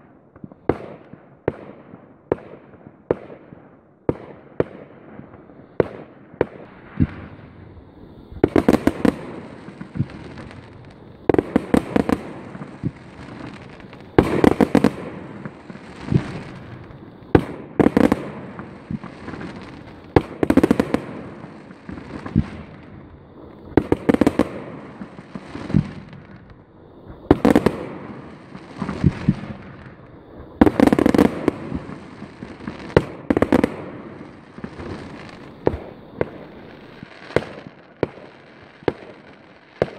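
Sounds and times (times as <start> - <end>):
fireworks bursting in loud bangs: 0.0 - 26.4, 27.0 - 39.9.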